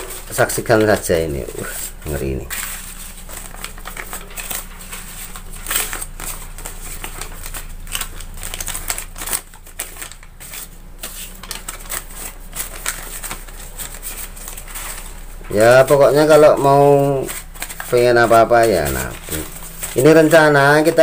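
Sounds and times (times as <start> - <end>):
paper banknotes rustling: 0.0 - 21.0.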